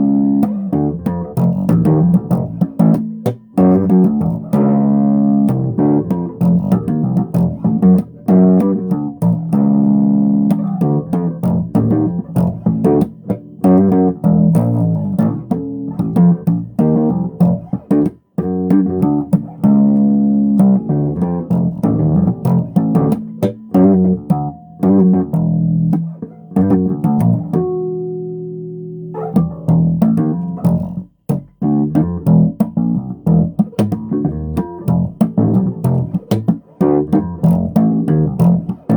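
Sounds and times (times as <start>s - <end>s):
bass guitar plucked notes: 0.0s - 38.9s.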